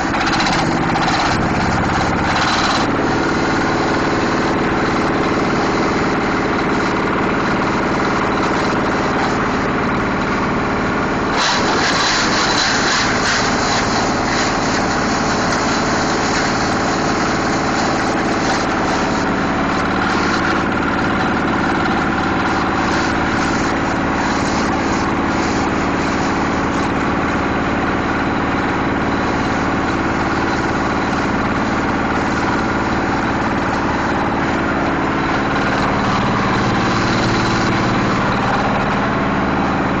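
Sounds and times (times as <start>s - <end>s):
harsh shredding noise: 0.0s - 40.0s
shredder machine humming: 0.0s - 40.0s.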